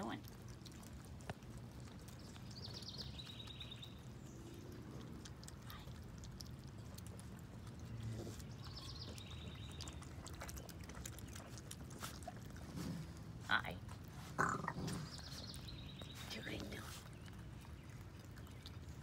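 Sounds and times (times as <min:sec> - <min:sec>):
raccoons lapping wet clicks: 0:00.0 - 0:19.0.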